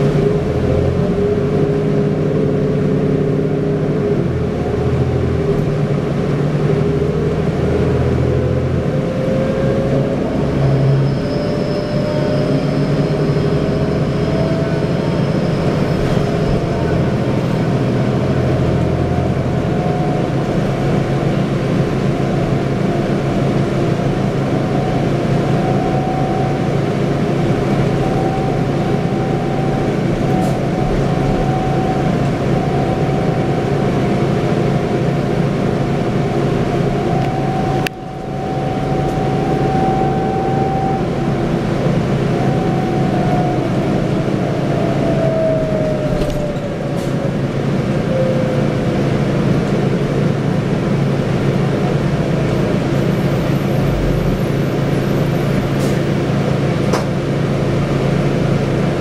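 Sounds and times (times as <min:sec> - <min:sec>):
bus diesel engine: 0:00.0 - 0:59.0
rising transmission whine: 0:00.0 - 0:59.0.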